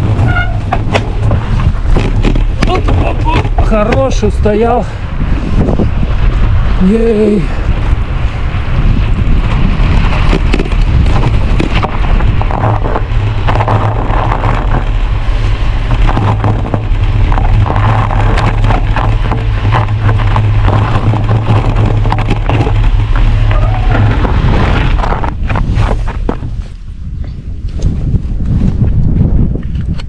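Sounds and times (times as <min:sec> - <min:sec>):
crackles and clicks: 0:00.0 - 0:04.6, 0:05.8 - 0:26.9
wind buffeting microphone: 0:00.0 - 0:30.0.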